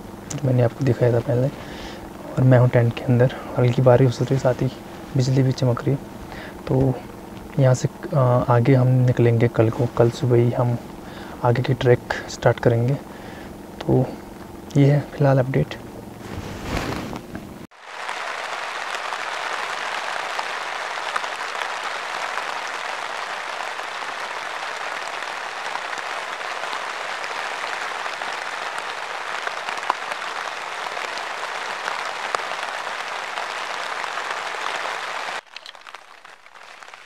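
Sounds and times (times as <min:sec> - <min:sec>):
heavy rain on a tent: 0:00.0 - 0:12.0, 0:17.7 - 0:37.0.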